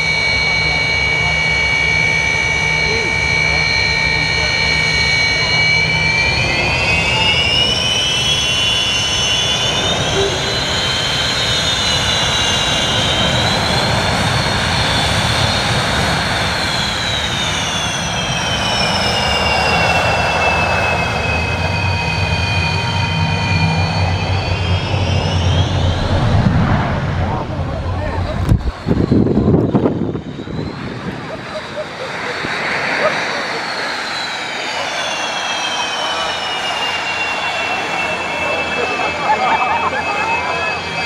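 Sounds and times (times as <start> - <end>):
jet engine whine: 0.0 - 41.0
low engine rumble: 0.0 - 41.0.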